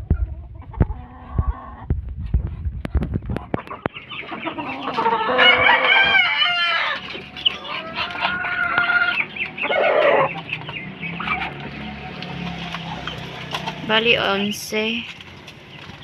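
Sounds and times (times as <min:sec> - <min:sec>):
poultry clucking: 0:00.0 - 0:16.0
long held poultry call: 0:00.4 - 0:01.8, 0:03.4 - 0:14.9.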